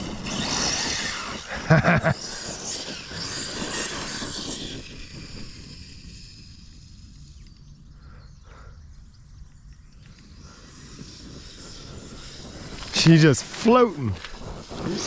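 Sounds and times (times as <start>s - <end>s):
faint outdoor background: 0.0s - 15.0s
rc truck motor whine: 0.0s - 15.0s.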